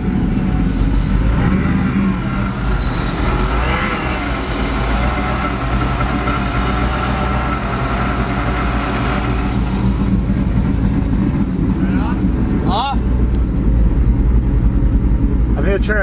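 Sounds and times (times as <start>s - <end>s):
steady engine running: 0.0s - 16.0s.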